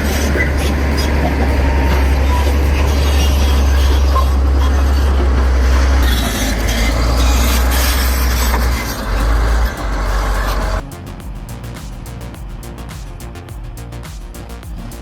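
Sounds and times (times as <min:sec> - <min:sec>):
heavy machinery engine rumble: 0:00.0 - 0:15.0.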